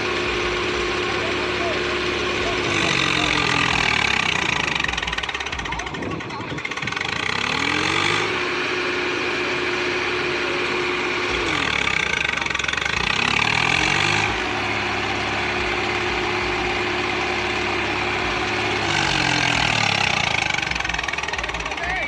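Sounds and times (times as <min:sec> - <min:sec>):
tractor diesel engine revving: 0:00.0 - 0:22.0.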